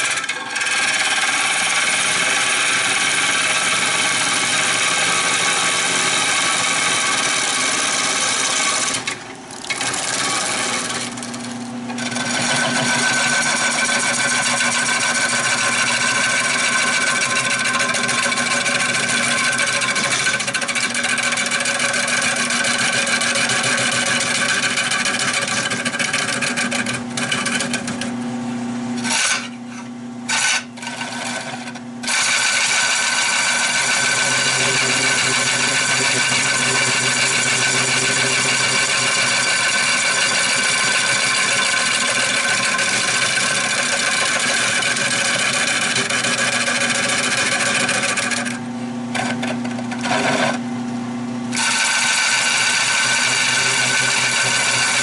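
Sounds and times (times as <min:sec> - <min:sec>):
gouge scraping wood on lathe: 0:00.0 - 0:28.1, 0:29.0 - 0:50.6, 0:51.5 - 0:55.0
lathe humming: 0:00.0 - 0:28.2, 0:29.0 - 0:50.6, 0:51.5 - 0:55.0.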